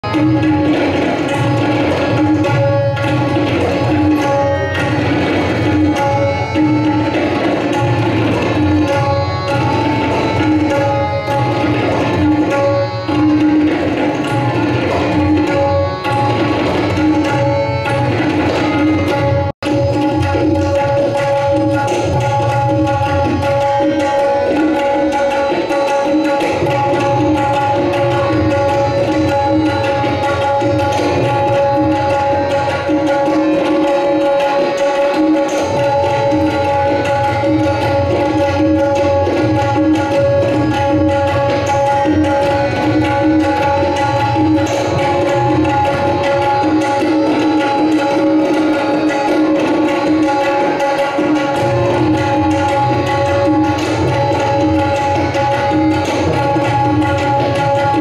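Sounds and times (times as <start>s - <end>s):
harmonium melody: 0.0s - 58.0s
tabla drums: 0.0s - 58.0s.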